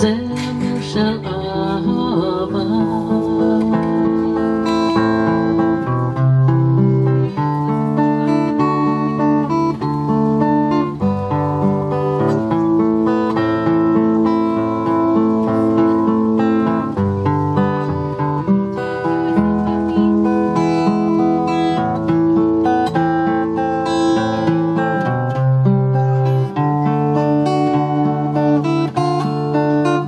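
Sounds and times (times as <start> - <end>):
acoustic guitar piece: 0.0 - 30.0.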